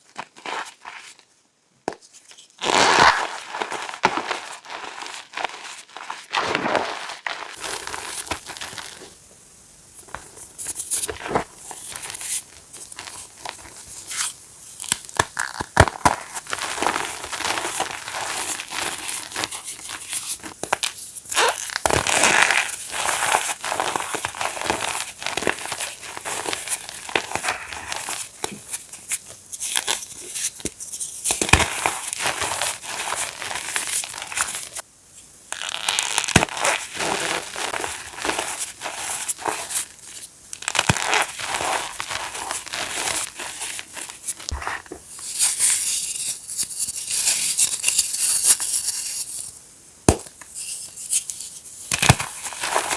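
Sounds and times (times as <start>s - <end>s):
chalk being crushed: 2.3s - 9.2s, 10.0s - 34.8s, 35.5s - 52.9s.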